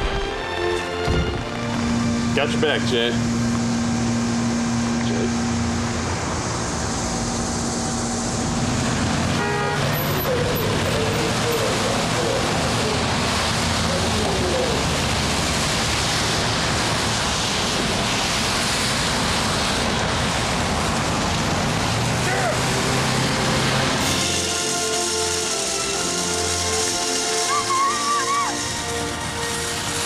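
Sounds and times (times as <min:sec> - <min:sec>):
tyres hissing on wet road: 0:00.0 - 0:30.0.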